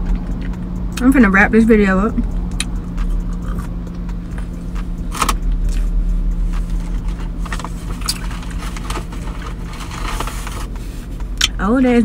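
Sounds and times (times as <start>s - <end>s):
car idling low hum: 0.0s - 12.0s.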